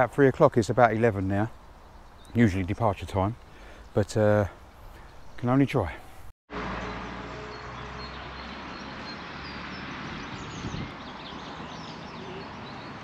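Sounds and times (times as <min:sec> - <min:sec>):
small birds chirping: 0:00.0 - 0:06.3, 0:07.5 - 0:13.0.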